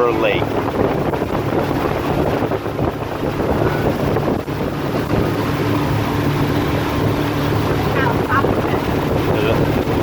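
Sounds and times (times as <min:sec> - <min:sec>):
boat motor running: 0:00.0 - 0:10.0
wind buffeting microphone: 0:00.0 - 0:10.0.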